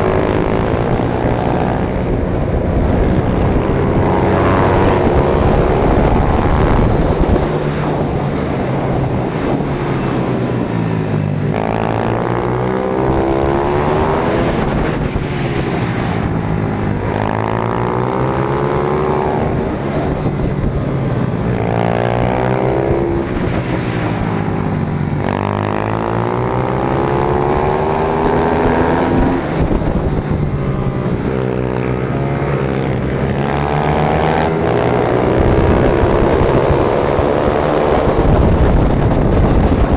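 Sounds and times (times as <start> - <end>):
motorbike engine revving: 0.0 - 39.9
wind noise: 0.0 - 39.9.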